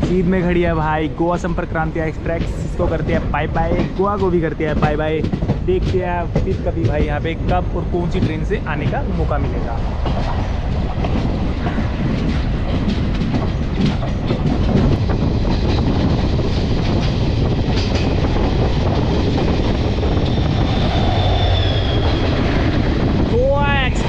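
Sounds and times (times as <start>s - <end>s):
locomotive passing close: 0.0s - 24.0s
train wheels clickety-clack: 0.0s - 24.0s.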